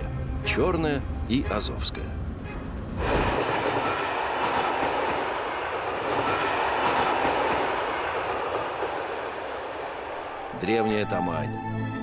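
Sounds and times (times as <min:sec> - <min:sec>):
train rumbling along rails: 0:00.0 - 0:11.2.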